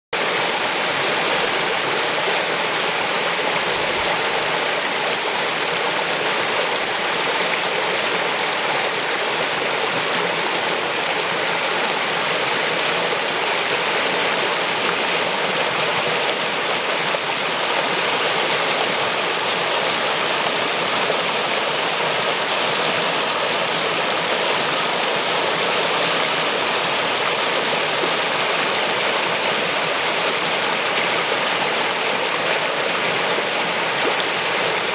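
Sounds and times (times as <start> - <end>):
stream water rushing: 0.2 - 34.9.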